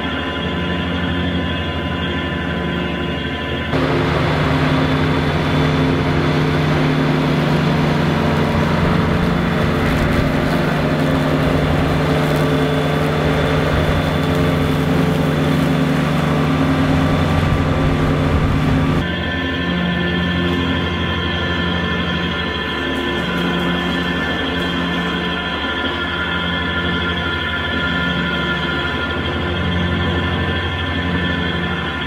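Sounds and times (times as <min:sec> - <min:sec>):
tractor diesel engine running: 0:00.0 - 0:32.0
mower cutting grass: 0:03.7 - 0:32.0.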